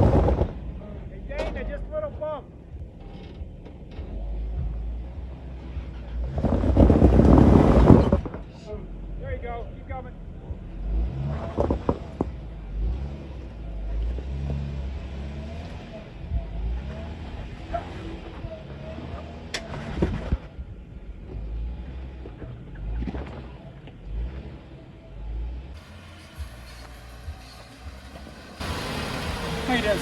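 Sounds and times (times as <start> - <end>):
engine revving while crawling: 0.0 - 30.0.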